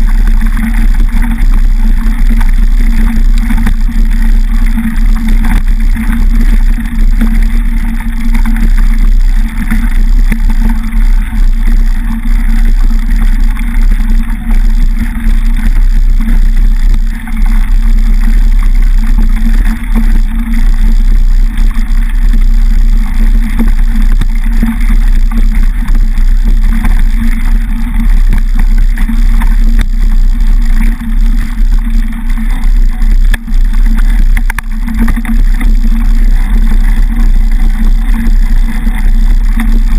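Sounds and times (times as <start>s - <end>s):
bike frame vibration: 0.0s - 39.9s
bike tyres rumbling on gravel: 0.0s - 39.9s
wind on microphone: 0.0s - 39.9s.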